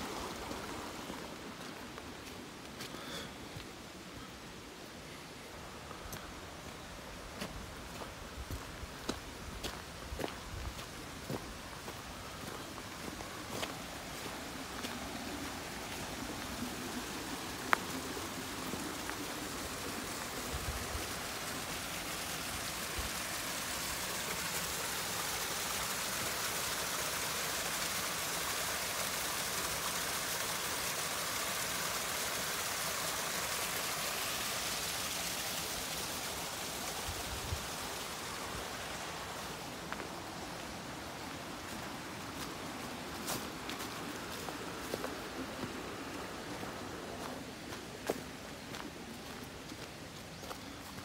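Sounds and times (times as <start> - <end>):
stream babbling over rocks: 0.0 - 51.0.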